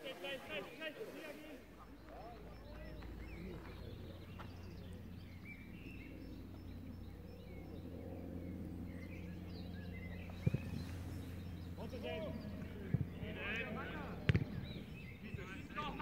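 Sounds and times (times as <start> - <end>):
bird chirps: 1.6 - 16.0
low hum: 1.6 - 16.0.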